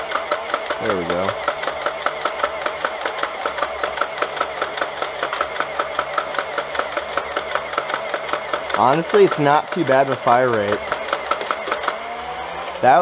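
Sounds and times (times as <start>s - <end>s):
rapid dart shots: 0.0s - 12.6s
toy blaster motor whirring: 0.0s - 13.0s.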